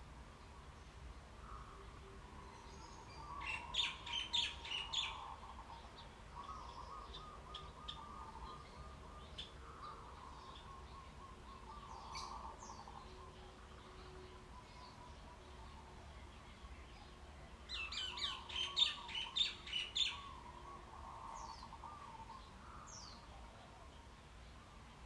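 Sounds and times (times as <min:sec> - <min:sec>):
small birds chirping: 0:00.1 - 0:25.0
bird warbling song: 0:00.3 - 0:25.0.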